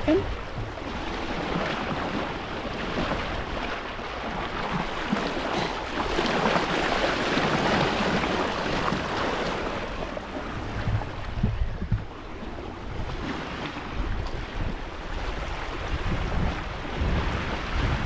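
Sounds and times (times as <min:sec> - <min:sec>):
water washing along boat hull: 0:00.0 - 0:18.0
wind on microphone: 0:00.0 - 0:18.0.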